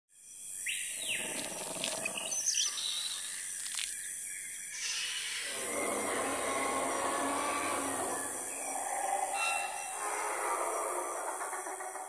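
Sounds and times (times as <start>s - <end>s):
bird calls and chirps: 0.2s - 12.0s.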